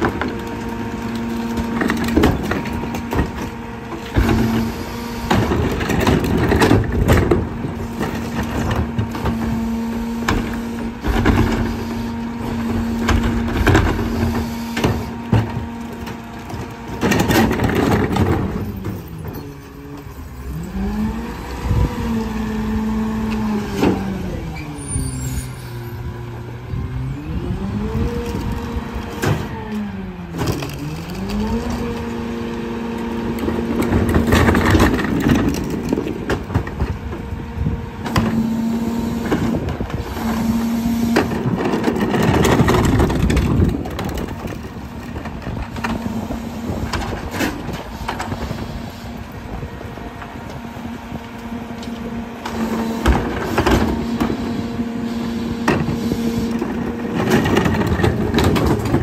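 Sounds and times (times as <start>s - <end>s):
diesel engine revving: 0.0s - 59.0s
trash crunching in compactor: 0.0s - 59.0s.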